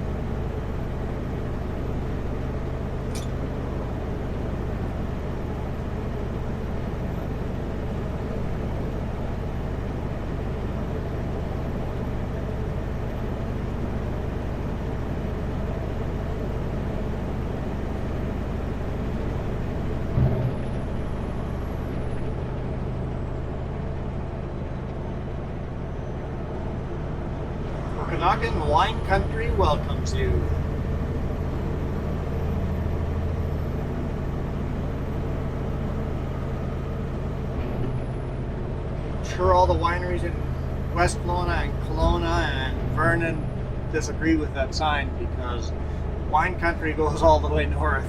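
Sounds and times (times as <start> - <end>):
road noise inside cab: 0.0 - 48.0
truck diesel engine drone: 0.0 - 48.0.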